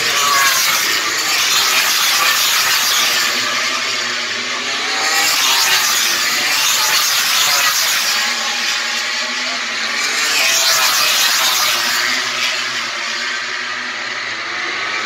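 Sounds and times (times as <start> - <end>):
racing motorcycles passing by: 0.0 - 15.0.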